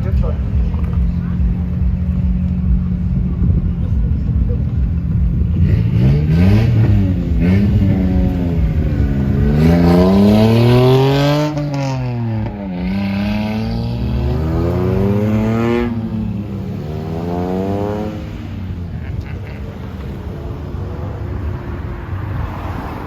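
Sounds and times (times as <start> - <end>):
car exhaust free-revving: 0.0 - 21.5.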